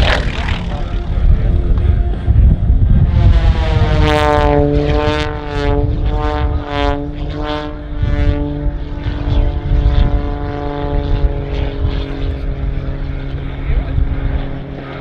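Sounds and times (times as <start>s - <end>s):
low rumble: 0.0s - 15.0s
propeller plane engine buzz: 0.0s - 15.0s.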